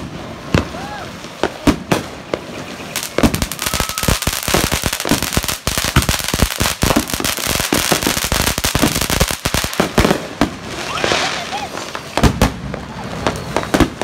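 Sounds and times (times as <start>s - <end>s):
firework crackling pops: 0.0s - 14.0s.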